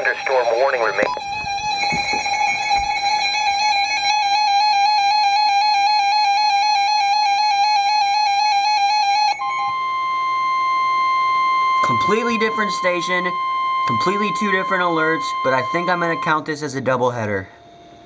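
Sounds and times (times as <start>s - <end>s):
steady alarm tone: 0.0s - 18.0s.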